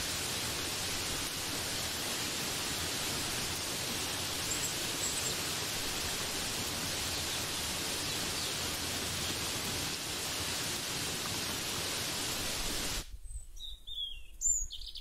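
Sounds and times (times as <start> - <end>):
steady rain hiss: 0.0 - 13.2.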